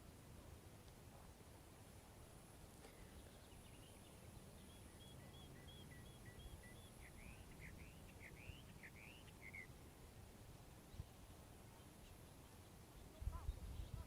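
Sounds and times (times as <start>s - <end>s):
faint songbird song: 2.2s - 14.0s.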